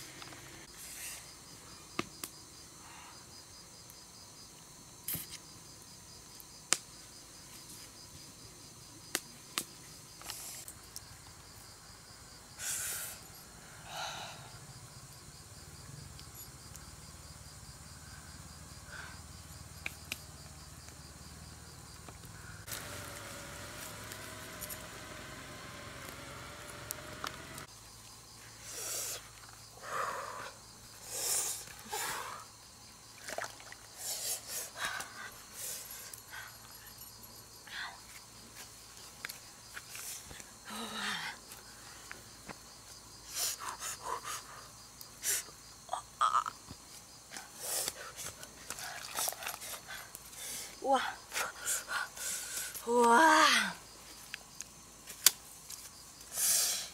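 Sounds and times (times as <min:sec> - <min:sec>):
insects chirping: 0:00.0 - 0:56.9.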